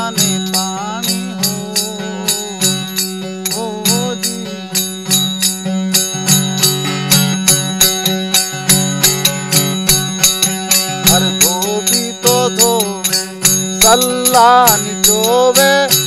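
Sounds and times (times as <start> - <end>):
sliding melodic line: 0.0 - 16.0
wooden clappers with jingles: 0.0 - 16.0.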